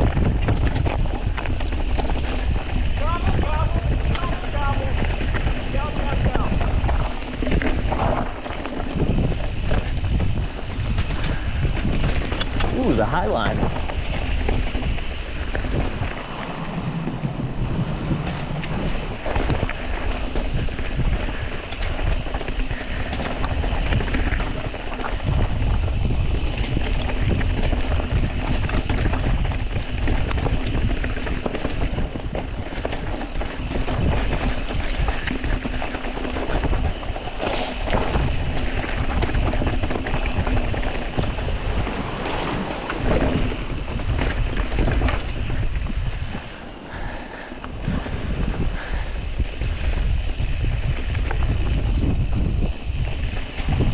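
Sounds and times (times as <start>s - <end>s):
bike knocks and rattles: 0.0s - 47.0s
tyre noise: 0.0s - 53.9s
wind buffeting microphone: 0.0s - 53.9s.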